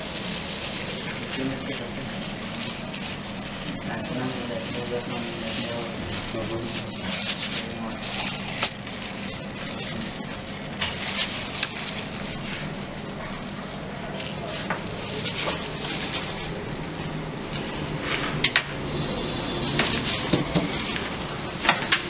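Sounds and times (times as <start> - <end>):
sandwich grill sizzling: 0.0 - 22.0.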